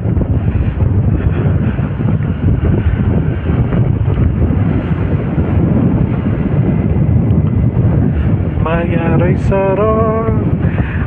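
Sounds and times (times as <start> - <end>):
motorcycle engine drone: 0.0 - 11.0
wind buffeting microphone: 0.0 - 11.0.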